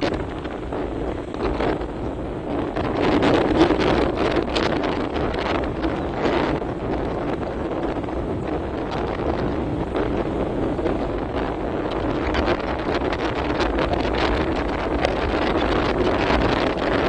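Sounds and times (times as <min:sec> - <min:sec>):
motorbike running: 0:00.0 - 0:17.0
wind buffeting microphone: 0:00.0 - 0:17.0.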